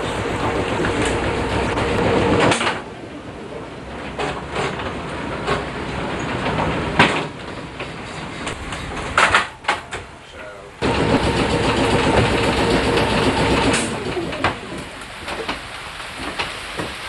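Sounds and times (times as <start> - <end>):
electric tram rumbling: 0.0 - 17.0.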